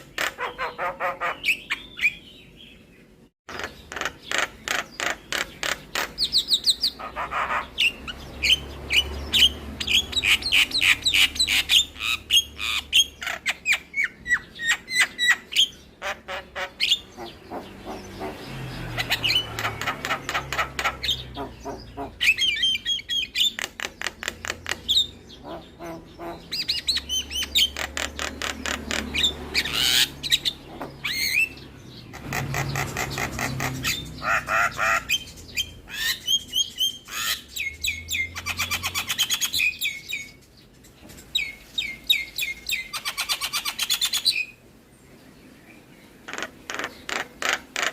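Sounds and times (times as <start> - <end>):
myna bird singing: 0.0 - 47.9.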